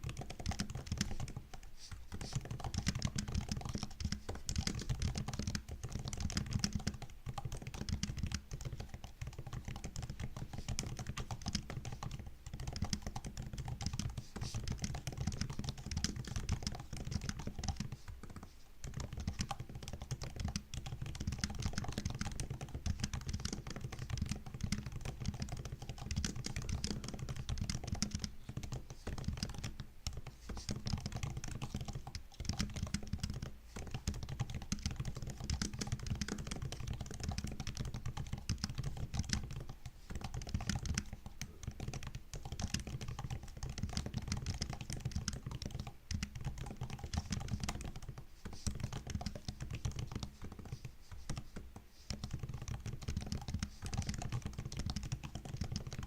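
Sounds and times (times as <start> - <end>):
typing on laptop keyboard: 0.0 - 56.0.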